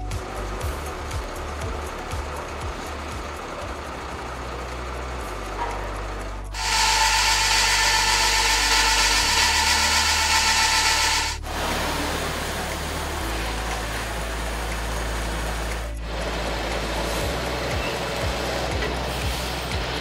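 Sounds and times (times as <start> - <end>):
truck wheels whining on steel rollers: 0.0 - 20.0.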